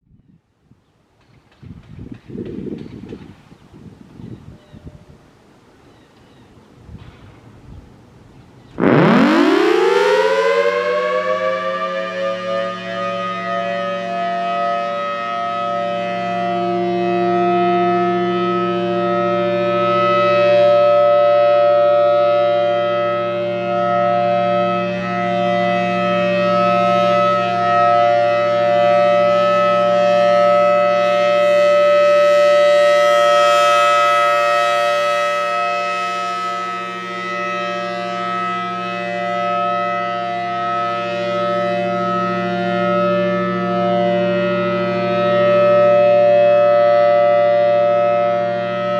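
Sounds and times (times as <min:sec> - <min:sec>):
outdoor warning siren two-note tone: 0:08.7 - 0:48.9.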